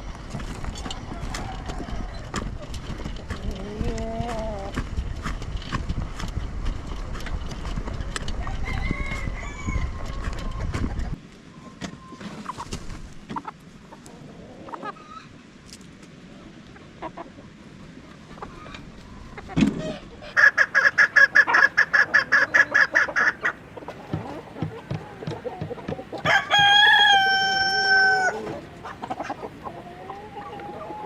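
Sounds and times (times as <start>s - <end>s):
chickens clucking and calling: 0.0s - 15.5s, 16.3s - 31.0s.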